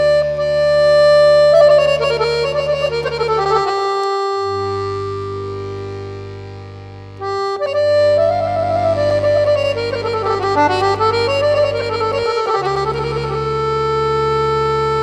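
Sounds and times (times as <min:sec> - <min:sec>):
held chords over steady bass: 0:00.0 - 0:15.0.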